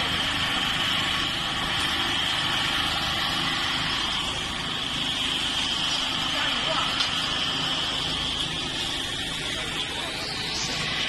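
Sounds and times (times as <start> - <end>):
constant high hiss: 0.0 - 11.0
machine engine humming: 0.0 - 11.0.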